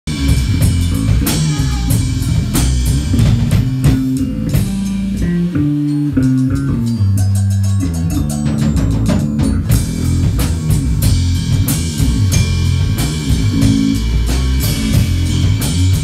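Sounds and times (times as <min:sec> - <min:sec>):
bass line: 0:00.0 - 0:16.0
drum kit beat: 0:00.1 - 0:16.0
guitar: 0:00.1 - 0:16.0.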